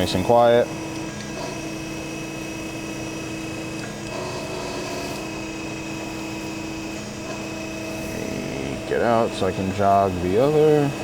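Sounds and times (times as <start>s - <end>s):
axis motor tone: 0.0s - 11.0s
surface grinder humming: 0.0s - 11.0s.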